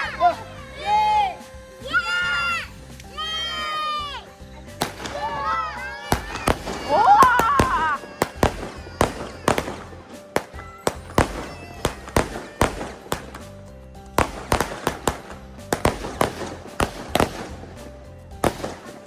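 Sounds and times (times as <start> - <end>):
small fireworks cracking and popping: 0.0 - 19.0.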